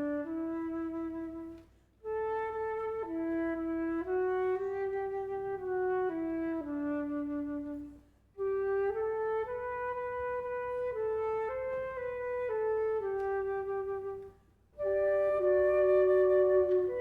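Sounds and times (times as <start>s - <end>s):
flute-like wind instrument melody: 0.0s - 17.0s.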